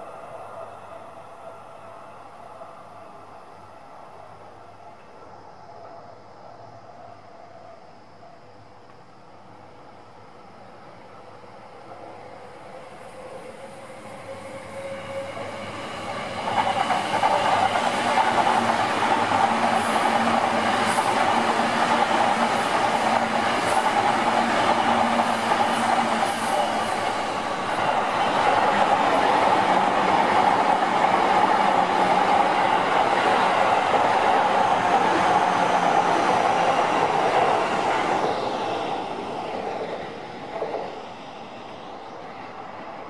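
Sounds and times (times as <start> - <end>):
electric trains passing: 0.0 - 43.0.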